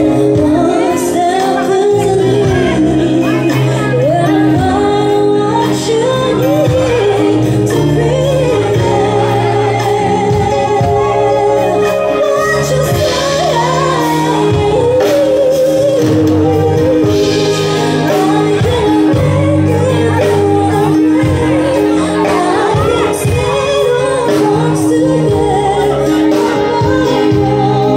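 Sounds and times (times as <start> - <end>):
live rock band playing: 0.0 - 27.9
woman singing: 0.0 - 27.9.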